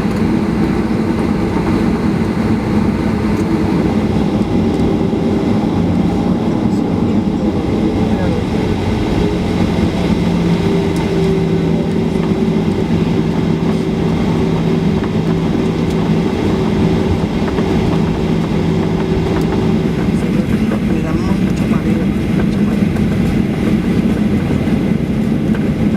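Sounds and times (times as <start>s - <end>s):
jet engines rumbling: 0.0s - 25.9s
low hum: 0.0s - 25.9s.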